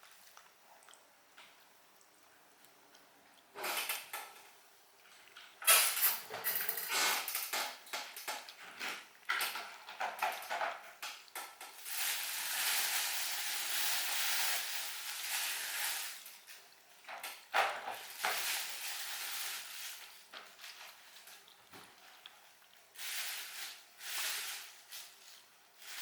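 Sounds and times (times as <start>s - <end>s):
crackling hiss: 0.0s - 26.0s.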